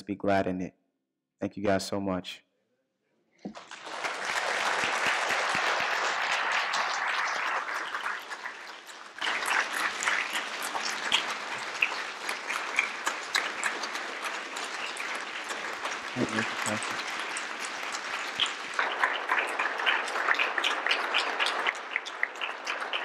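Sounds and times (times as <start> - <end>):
congregation applauding: 3.5 - 23.0.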